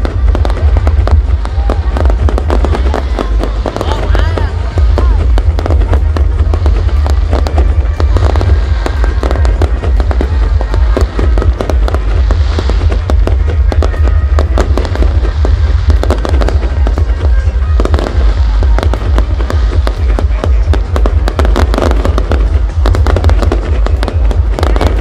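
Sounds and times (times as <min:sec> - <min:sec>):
deep rumble: 0:00.0 - 0:25.0
fireworks bangs and crackles: 0:00.0 - 0:25.0.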